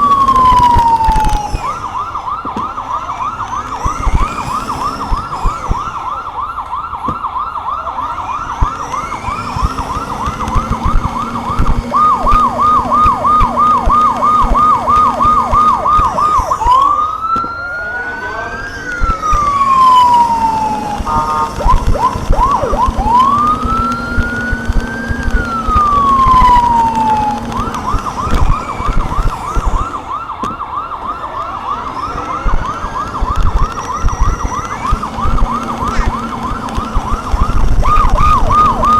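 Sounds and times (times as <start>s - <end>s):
electronic siren yelp and wail: 0.0s - 38.9s
engine and road noise: 0.0s - 38.9s.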